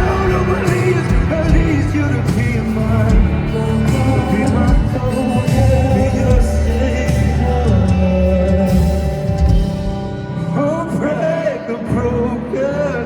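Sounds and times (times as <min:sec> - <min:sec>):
live band music: 0:00.0 - 0:12.3.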